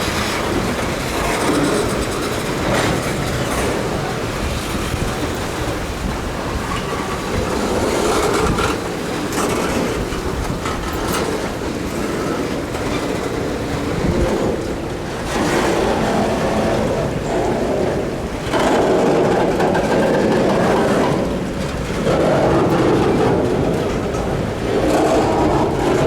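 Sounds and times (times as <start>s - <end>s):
freight train rumbling: 0.0s - 26.0s
wheels clicking over rails: 0.0s - 26.0s.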